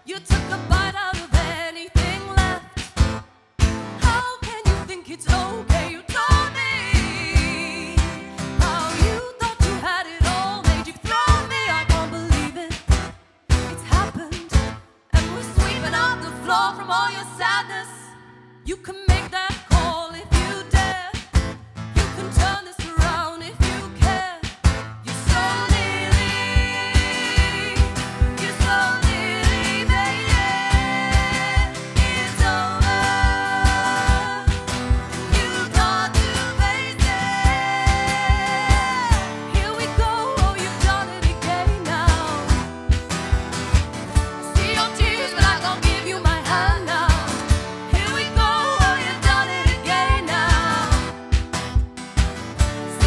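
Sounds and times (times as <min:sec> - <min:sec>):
drum beat: 0:00.3 - 0:15.8, 0:19.1 - 0:53.0.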